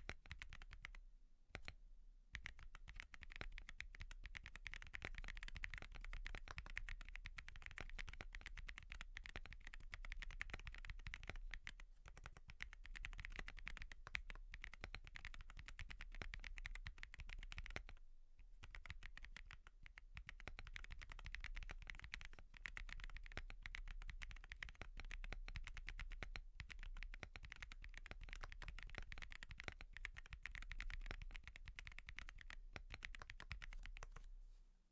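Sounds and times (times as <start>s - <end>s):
mechanical keyboard typing: 0.0s - 1.0s, 2.4s - 18.0s, 18.6s - 34.3s.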